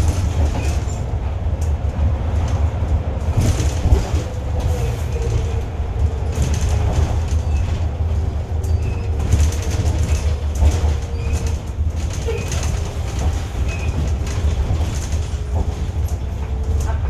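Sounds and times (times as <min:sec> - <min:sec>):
bus body rattling: 0:00.0 - 0:17.0
bus engine rumble: 0:00.0 - 0:17.0.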